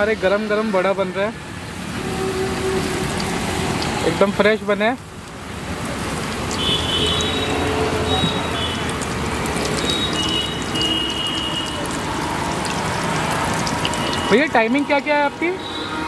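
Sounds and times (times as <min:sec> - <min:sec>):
batter sizzling in hot oil: 0:01.6 - 0:15.1.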